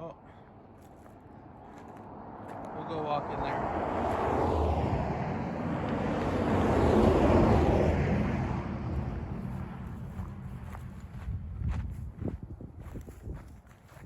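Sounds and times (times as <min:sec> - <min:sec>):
road vehicle passing by: 0:00.2 - 0:12.3.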